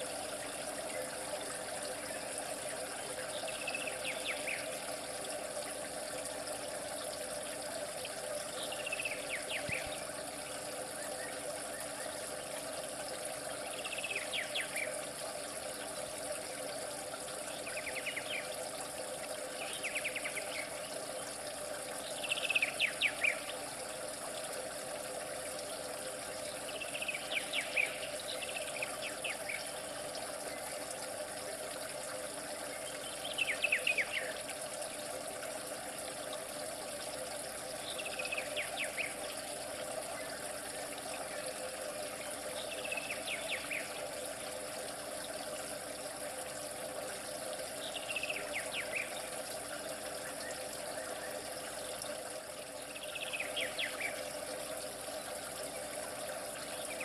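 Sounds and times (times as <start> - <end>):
running water hiss: 0.0 - 57.0.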